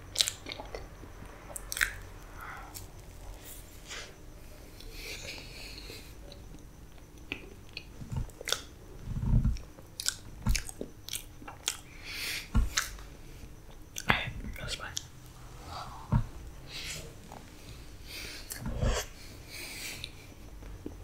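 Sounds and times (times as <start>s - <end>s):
person chewing cake: 0.1s - 19.2s.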